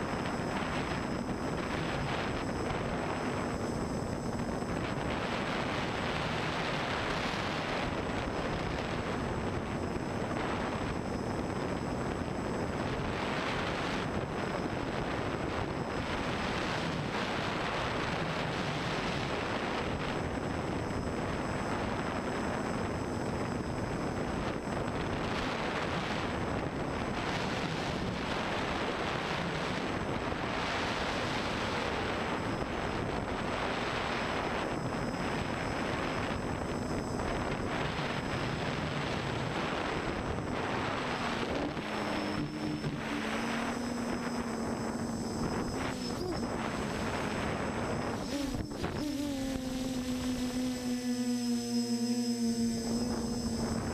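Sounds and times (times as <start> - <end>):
drone motors and propellers buzzing: 0.0 - 53.9
wind rush on microphone: 0.0 - 53.9.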